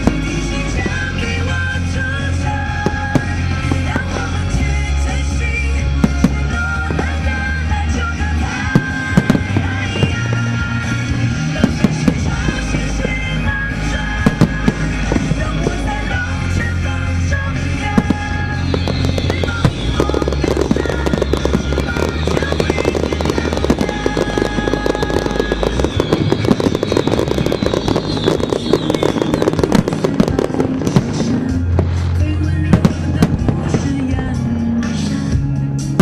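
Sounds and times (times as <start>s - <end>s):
fireworks bursting and crackling: 0.0s - 36.0s
music with steady bass line: 0.0s - 36.0s.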